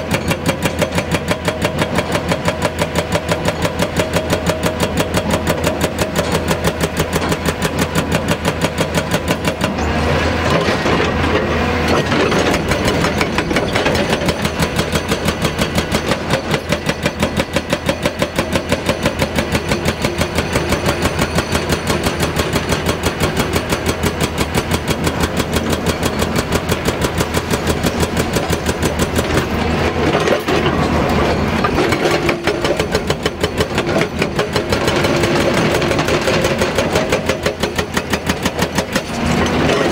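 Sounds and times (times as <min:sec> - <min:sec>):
hydraulic rock breaker hammering: 0:00.0 - 0:39.9.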